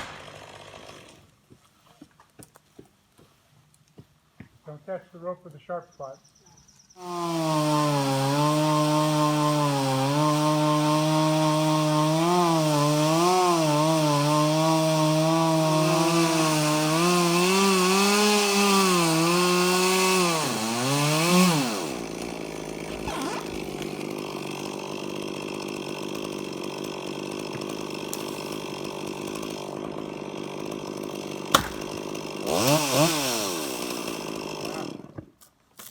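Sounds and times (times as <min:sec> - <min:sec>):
chainsaw cutting wood: 0:00.0 - 0:01.4, 0:07.0 - 0:35.9.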